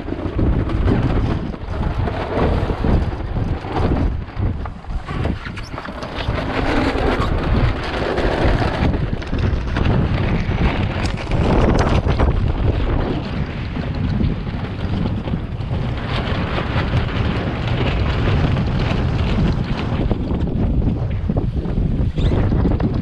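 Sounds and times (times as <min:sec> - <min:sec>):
gusty wind on microphone: 0:00.0 - 0:23.0
water rushing along hull: 0:00.0 - 0:23.0.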